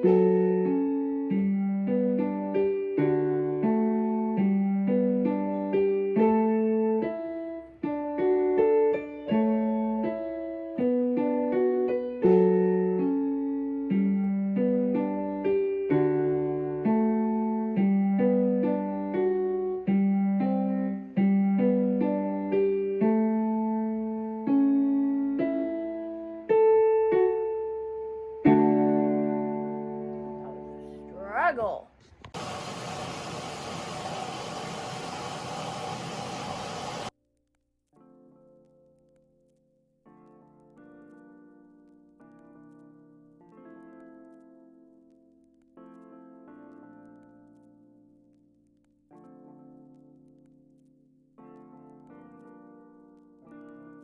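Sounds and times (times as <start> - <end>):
soft piano music: 0.0 - 31.2, 37.9 - 54.0.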